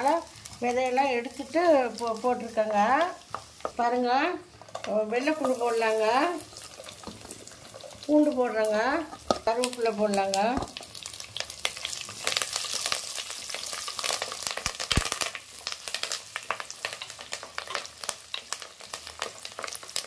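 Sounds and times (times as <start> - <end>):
spices sizzling in hot oil: 0.0 - 20.0.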